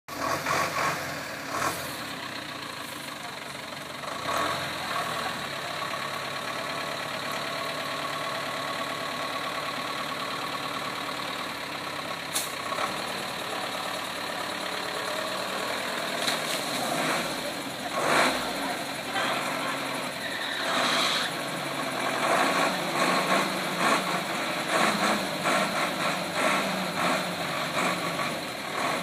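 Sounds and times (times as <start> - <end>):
vehicle engine running: 0.1 - 29.0.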